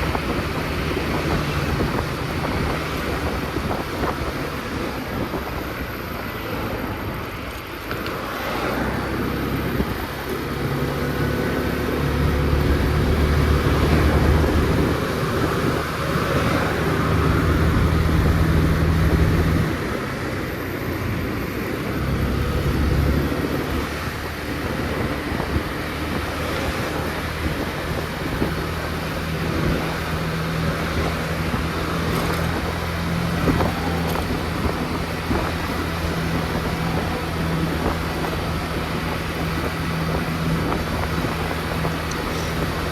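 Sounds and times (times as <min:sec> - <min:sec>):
motor scooter engine running: 0:00.0 - 0:42.9
road and wind noise: 0:00.0 - 0:42.9.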